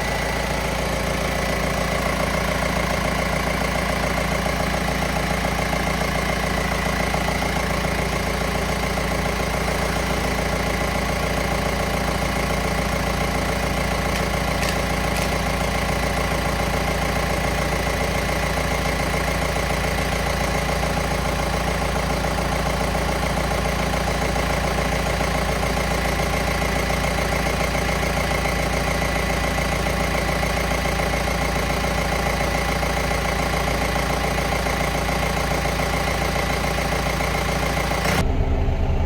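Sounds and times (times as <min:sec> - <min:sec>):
tractor diesel engine idling: 0:00.0 - 0:39.0.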